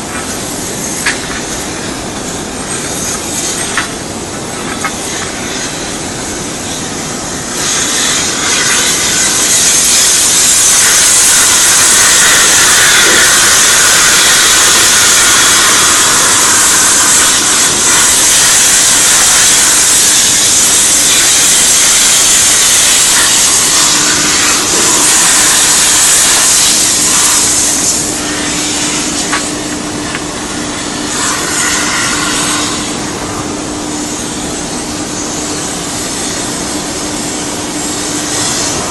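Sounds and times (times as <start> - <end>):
compressed air hissing: 0.0 - 38.9.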